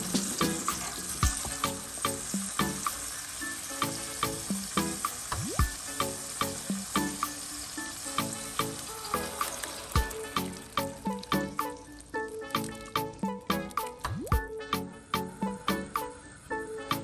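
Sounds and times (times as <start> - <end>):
background music with beat: 0.0 - 17.0
tomato slices sizzling in oil: 0.0 - 17.0.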